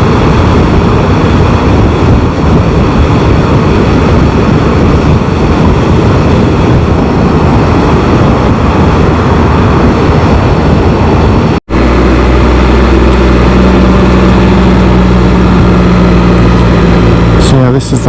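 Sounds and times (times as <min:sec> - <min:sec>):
engine drone: 0:00.0 - 0:18.0
road noise: 0:00.0 - 0:18.0
wind rush: 0:00.0 - 0:18.0.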